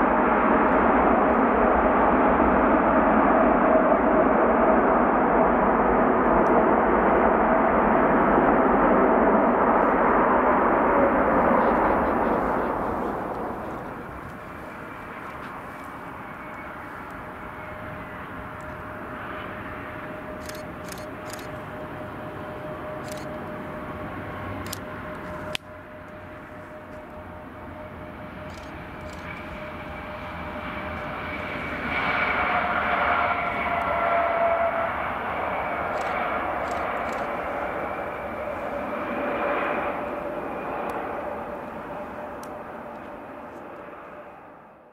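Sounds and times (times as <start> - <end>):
jet engines whining: 0.0 - 44.7.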